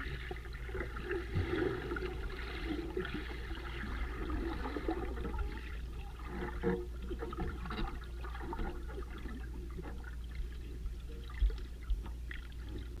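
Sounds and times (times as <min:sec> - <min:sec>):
underwater low rumble: 0:00.0 - 0:13.0.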